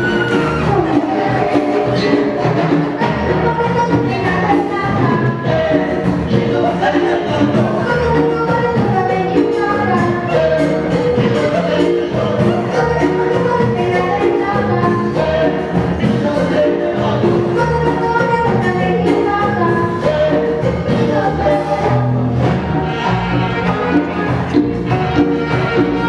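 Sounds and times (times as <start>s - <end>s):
music with voices singing: 0.0s - 26.0s.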